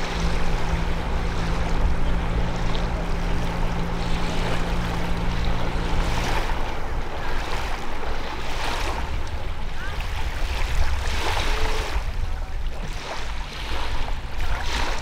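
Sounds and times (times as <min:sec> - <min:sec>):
outboard motor humming: 0:00.0 - 0:15.0
water rushing: 0:00.0 - 0:15.0
wind: 0:00.0 - 0:15.0.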